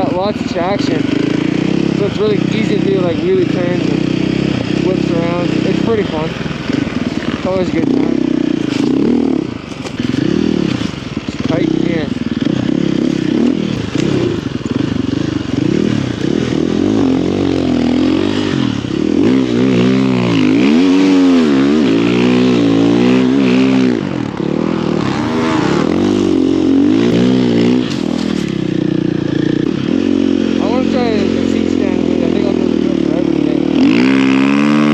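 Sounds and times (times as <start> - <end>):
snow bike engine revving: 0.0 - 34.9.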